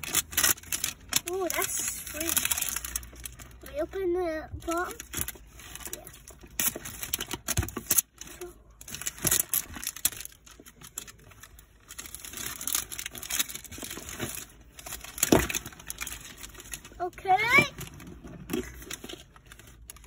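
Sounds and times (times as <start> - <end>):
wrapping crinkling and tearing: 0.0 - 20.0.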